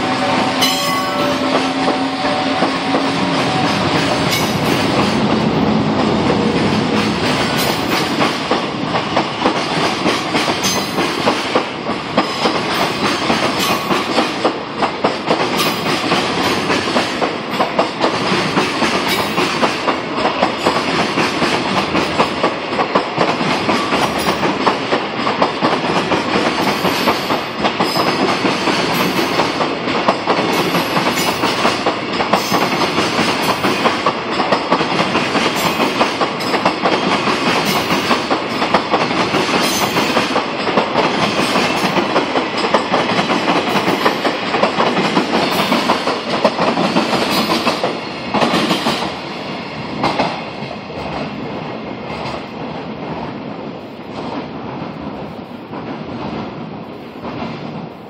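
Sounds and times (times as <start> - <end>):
train wheels clattering over rail joints: 0.0 - 51.4.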